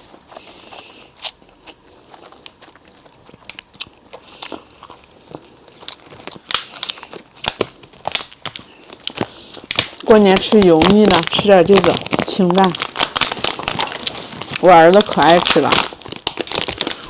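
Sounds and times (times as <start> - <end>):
person chewing food: 0.0 - 10.0, 10.6 - 17.0.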